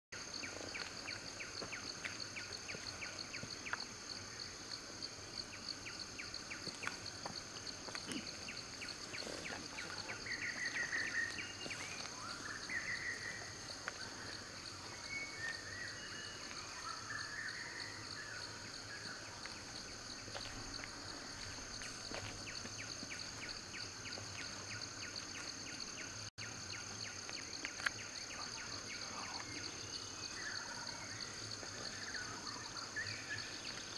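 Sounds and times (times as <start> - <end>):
high insect chorus: 0.2 - 33.9.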